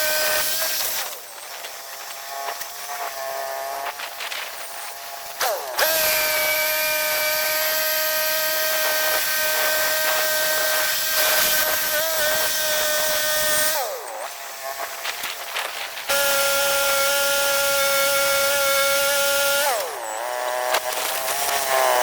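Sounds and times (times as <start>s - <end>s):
band saw cutting log: 0.0s - 22.0s.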